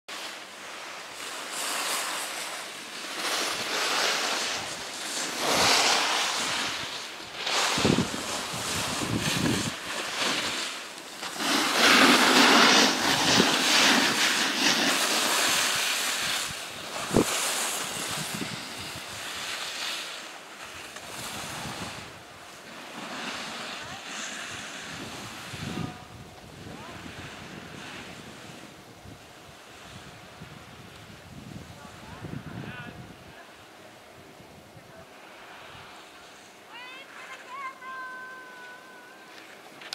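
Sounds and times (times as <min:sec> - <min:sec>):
skis scraping over snow: 0:00.1 - 0:34.2, 0:34.9 - 0:39.9.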